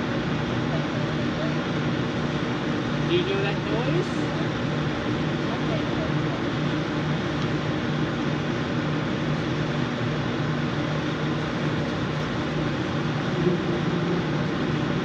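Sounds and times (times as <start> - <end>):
cooling unit humming: 0.0 - 15.0.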